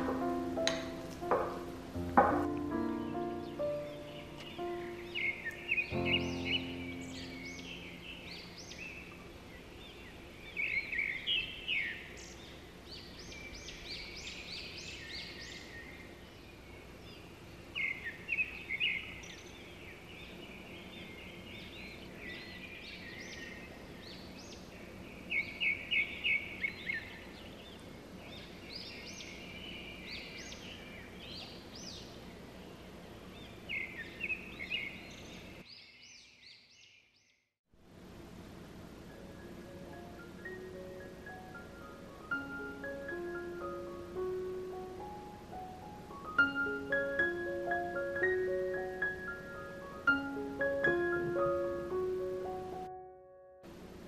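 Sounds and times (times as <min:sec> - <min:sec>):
faint steady hum: 0:00.0 - 0:35.7, 0:37.8 - 0:54.0
songbirds chirping: 0:00.0 - 0:54.0.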